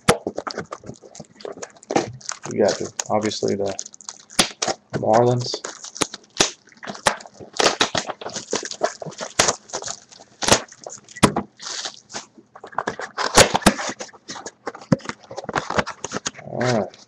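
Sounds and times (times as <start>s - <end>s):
card packs tearing and rustling: 0.0s - 16.9s.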